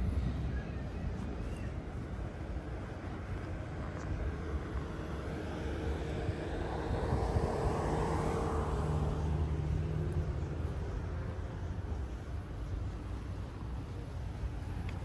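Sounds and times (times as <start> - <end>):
road vehicles rumbling: 0.0 - 15.0.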